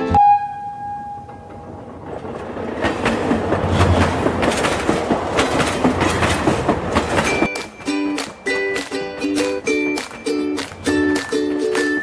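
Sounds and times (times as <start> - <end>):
train wheels clickety-clack: 1.3 - 12.0.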